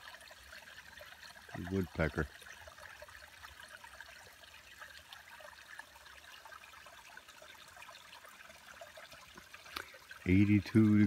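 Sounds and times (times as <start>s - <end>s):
creek trickling over stones: 0.0s - 11.0s.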